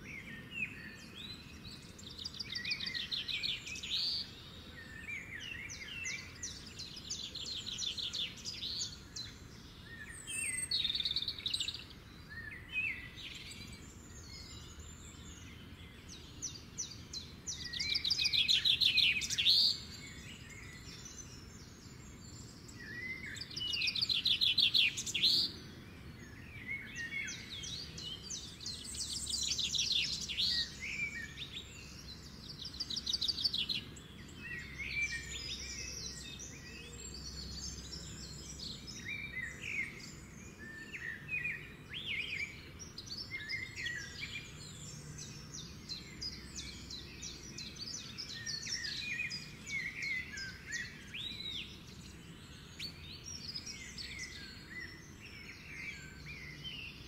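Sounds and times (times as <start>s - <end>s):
birds trilling and chirping: 0.0s - 57.0s
faint background hiss: 0.0s - 57.0s.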